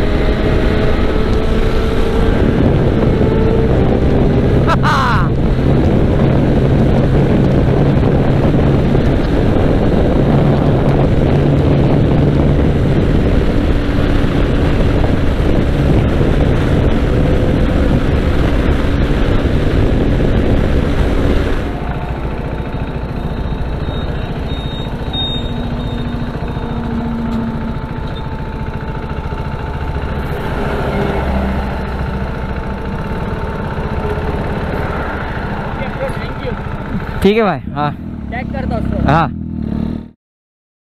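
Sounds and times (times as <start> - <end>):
wind rush on microphone: 0.0 - 38.2
motorcycle engine running: 0.0 - 40.2.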